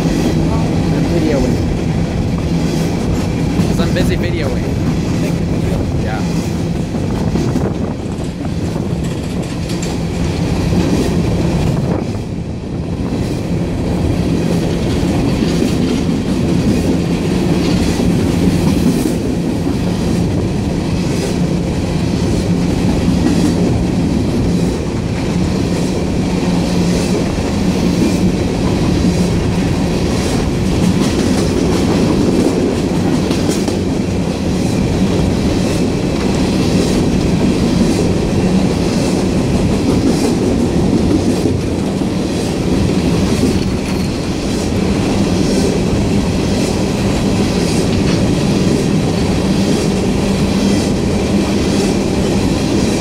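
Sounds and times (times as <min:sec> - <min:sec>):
train wheels rumbling on rail: 0:00.0 - 0:53.0
wheels clicking over rail joints: 0:06.4 - 0:11.8, 0:13.3 - 0:53.0.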